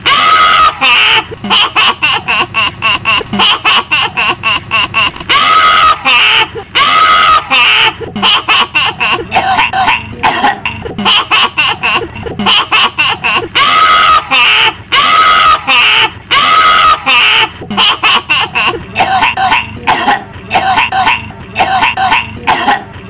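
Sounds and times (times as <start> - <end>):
shrill witch's cackle: 0.0 - 23.0.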